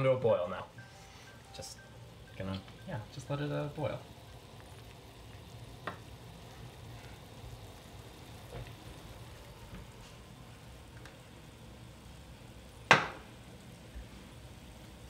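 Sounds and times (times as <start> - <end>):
water boiling in a saucepan: 0.0 - 15.0.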